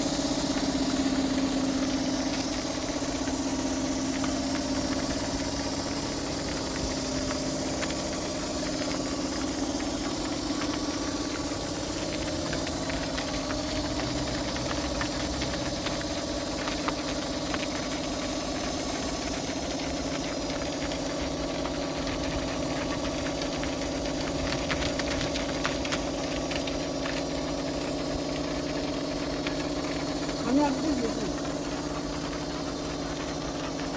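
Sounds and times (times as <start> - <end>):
pressure washer running: 0.0 - 33.9
small ticks and spatters: 0.0 - 33.9
spray hissing: 0.0 - 33.9.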